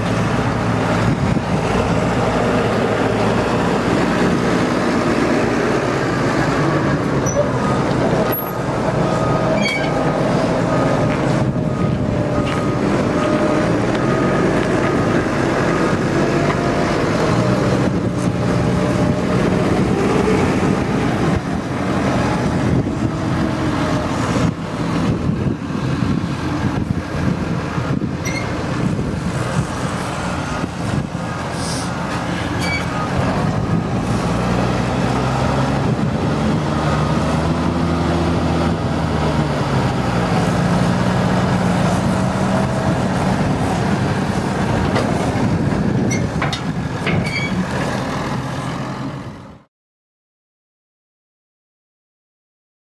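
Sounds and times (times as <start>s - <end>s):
tractor diesel engine running: 0.0s - 49.6s.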